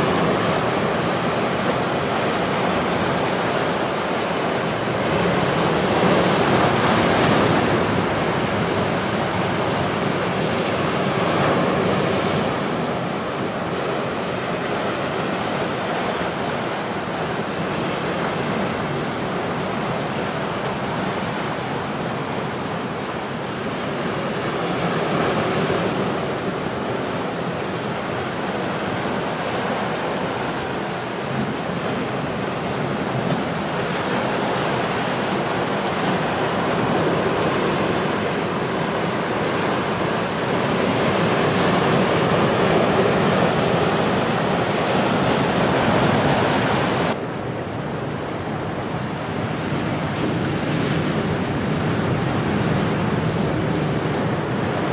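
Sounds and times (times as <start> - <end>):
heavy surf on rocky shore: 0.0 - 54.9.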